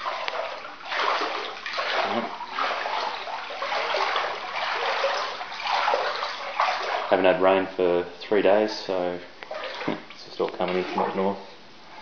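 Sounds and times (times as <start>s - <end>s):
water sloshing around wading legs: 0.0s - 7.8s, 8.5s - 12.0s.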